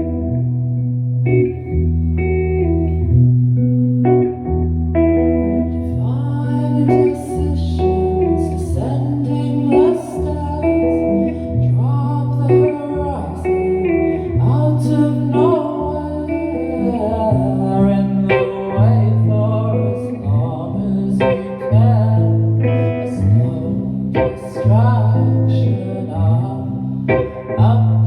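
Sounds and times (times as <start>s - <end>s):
person singing: 0.0s - 1.8s, 4.1s - 28.0s
held bass notes: 0.0s - 28.0s
steady guitar tones: 0.0s - 28.0s.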